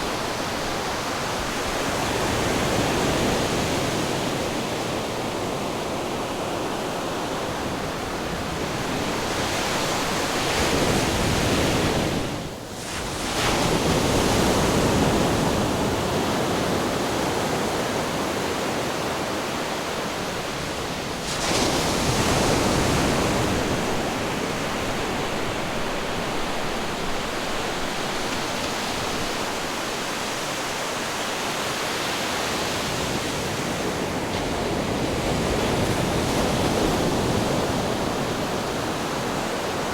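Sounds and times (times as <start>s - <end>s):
ocean surf: 0.0s - 39.9s.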